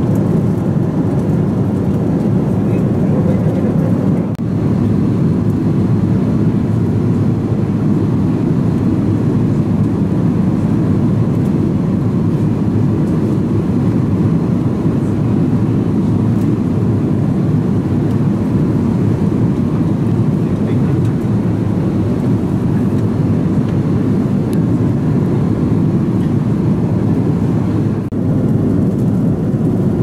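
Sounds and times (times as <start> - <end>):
airliner cabin engine drone: 0.0 - 30.0.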